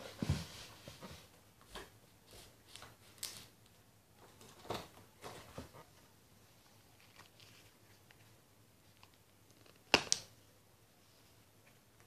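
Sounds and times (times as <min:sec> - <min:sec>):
person moving about rustling: 0:00.0 - 0:09.8.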